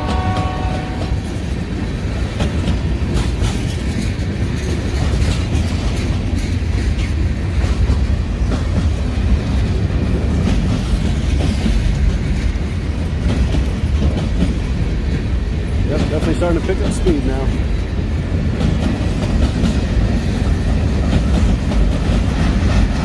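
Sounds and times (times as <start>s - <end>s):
freight train rumbling: 0.0s - 23.0s
steel wheels clacking over rails: 0.0s - 23.0s.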